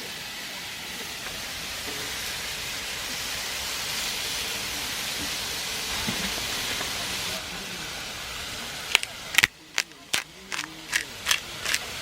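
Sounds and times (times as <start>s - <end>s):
steady hissing: 0.0s - 12.0s.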